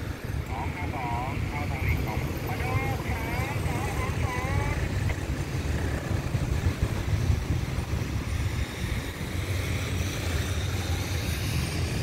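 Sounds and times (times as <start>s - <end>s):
low engine rumble: 0.0s - 12.0s
wind buffeting microphone: 0.0s - 12.0s.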